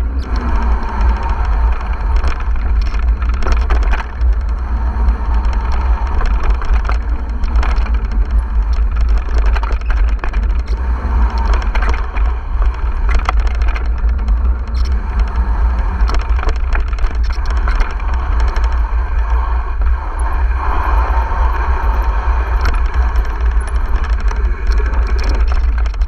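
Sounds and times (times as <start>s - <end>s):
bike rattling over bumps: 0.0s - 26.0s
wind rumble on microphone: 0.0s - 26.0s.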